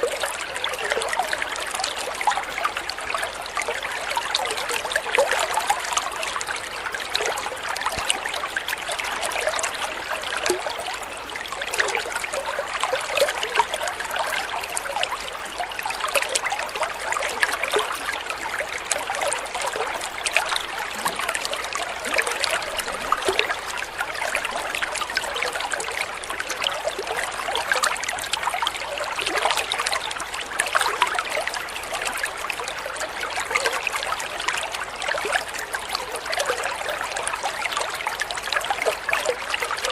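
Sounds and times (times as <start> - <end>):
water trickling over stones: 0.0 - 39.9.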